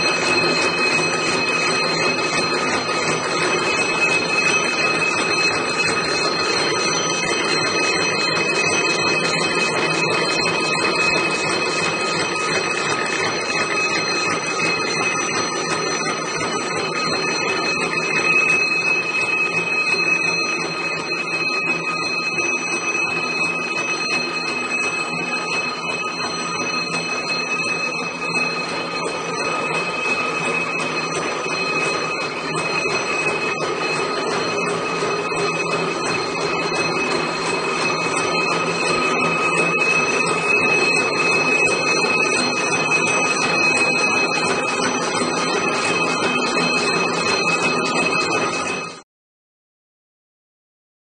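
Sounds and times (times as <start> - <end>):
fast clatter of spinning drum: 0.0 - 49.0
high-pitched whining tones: 0.0 - 49.0.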